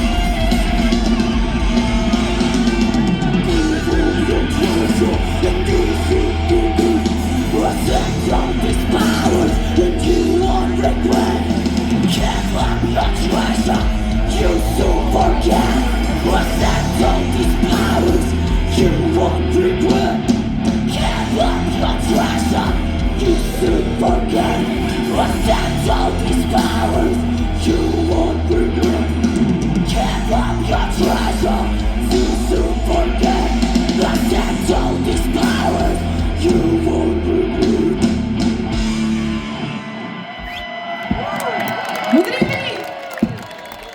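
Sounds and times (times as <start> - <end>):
heavy rock band playing: 0.0 - 43.9.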